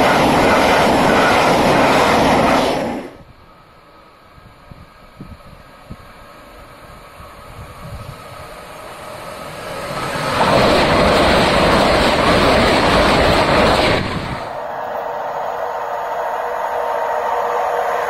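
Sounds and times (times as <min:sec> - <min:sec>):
high-speed train passing: 0:00.0 - 0:18.0.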